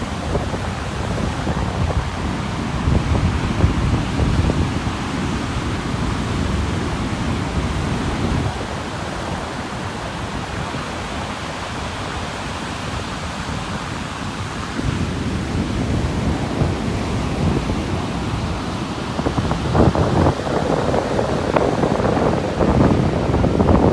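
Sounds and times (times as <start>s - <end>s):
low rumble of big waves: 0.0s - 23.9s
waves breaking on beach: 0.0s - 23.9s.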